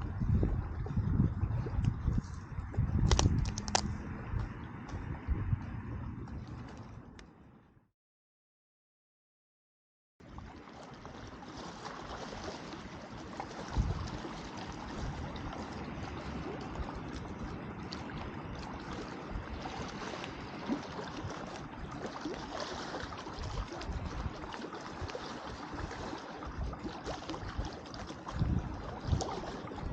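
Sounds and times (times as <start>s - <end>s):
lake water lapping at shore: 0.0s - 7.3s, 10.2s - 29.9s.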